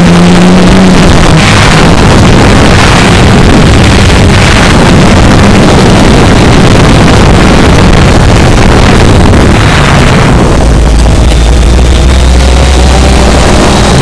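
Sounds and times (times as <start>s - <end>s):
drone propellers buzzing: 0.0s - 14.0s
wind on microphone: 0.0s - 14.0s.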